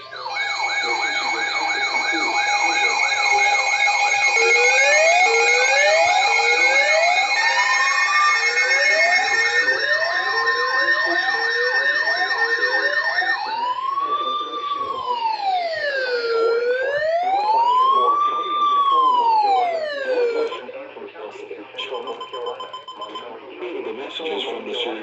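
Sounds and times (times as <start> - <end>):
siren with slow wail: 0.0 - 20.7
sirens sounding: 0.0 - 20.8.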